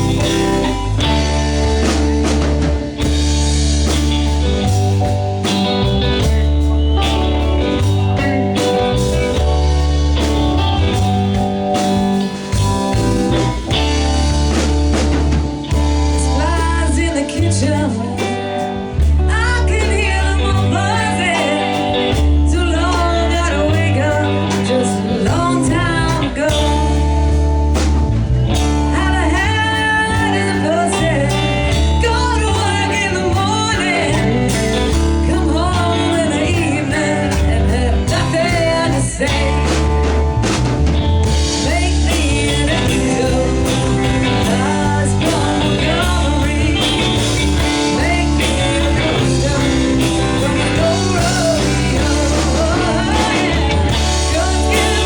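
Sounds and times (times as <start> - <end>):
person singing: 0.0 - 27.4, 28.6 - 40.2, 41.2 - 55.0
live blues-rock band: 0.0 - 55.0.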